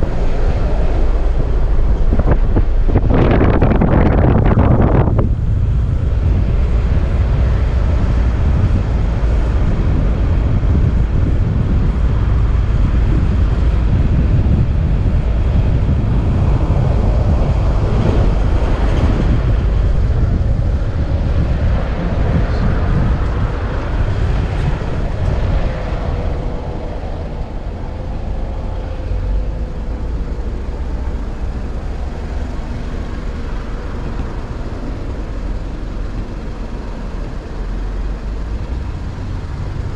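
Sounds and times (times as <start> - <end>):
vehicle road and wind rumble: 0.0 - 39.9.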